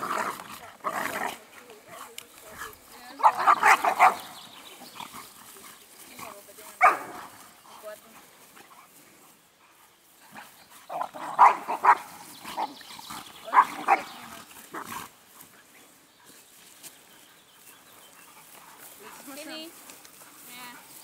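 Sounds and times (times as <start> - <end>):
dogs play-fighting: 0.0 - 16.4, 17.2 - 21.0.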